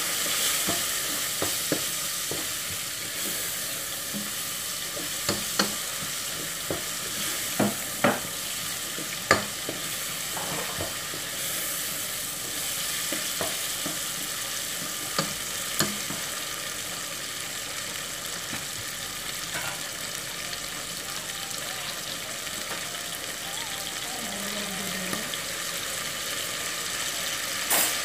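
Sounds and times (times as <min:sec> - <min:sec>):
chicken sizzling in a pot: 0:00.0 - 0:28.0.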